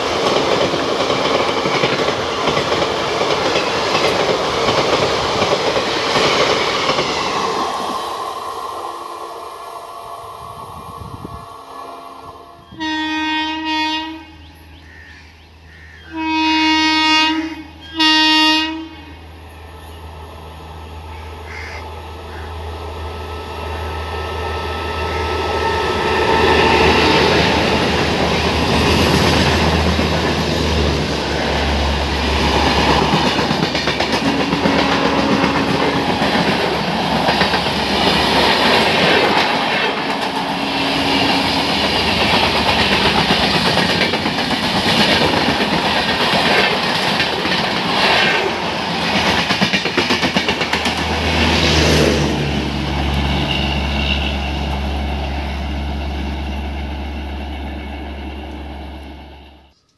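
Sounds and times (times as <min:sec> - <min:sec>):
train wheels on rails: 0:00.0 - 0:14.6, 0:19.4 - 0:59.8
train passing at high speed: 0:00.0 - 0:59.8.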